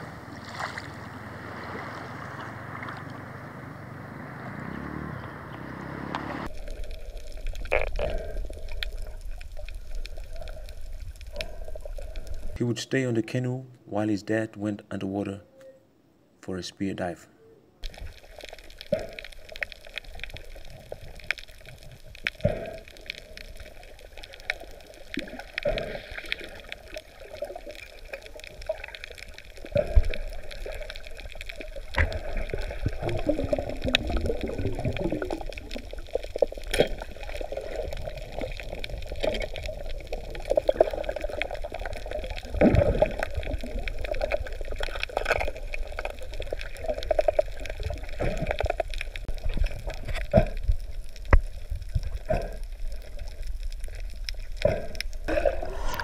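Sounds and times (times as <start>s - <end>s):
underwater bubbling: 0.0s - 12.6s, 17.8s - 56.0s.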